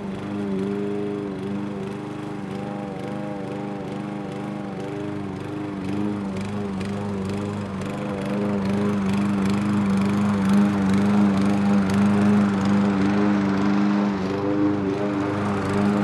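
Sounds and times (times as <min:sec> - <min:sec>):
lawnmower engine running: 0:00.0 - 0:16.0.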